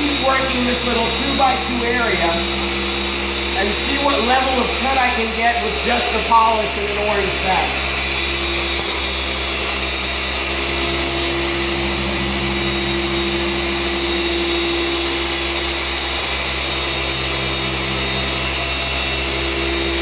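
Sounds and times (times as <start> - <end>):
electric polisher whining: 0.0 - 20.0.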